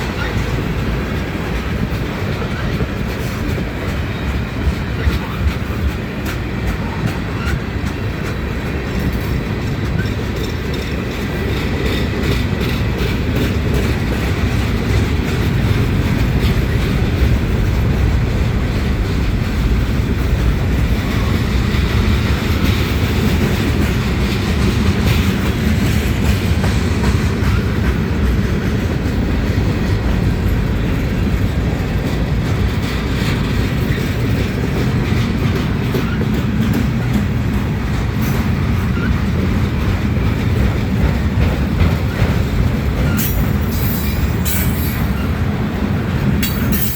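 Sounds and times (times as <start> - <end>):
freight train rumble: 0.0 - 46.9
wheels clicking over rail joints: 0.0 - 46.9.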